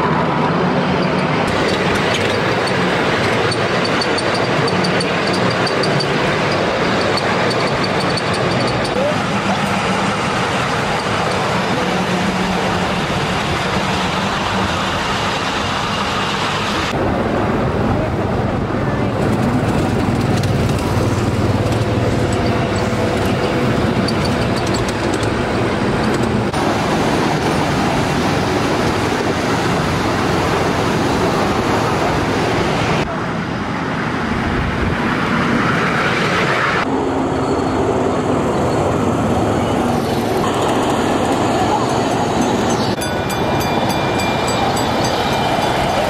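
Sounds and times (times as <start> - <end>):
rumbling outdoor noise: 0.0 - 46.0.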